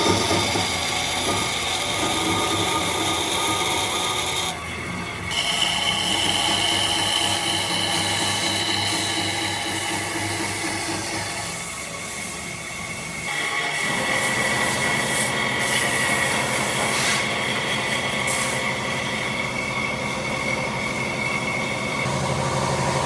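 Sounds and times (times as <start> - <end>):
power tool whining on wood: 0.0 - 23.0.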